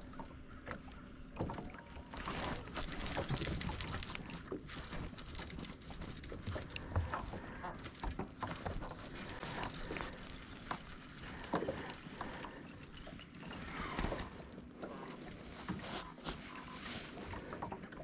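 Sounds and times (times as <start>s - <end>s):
waves lapping against boat: 0.0s - 18.0s.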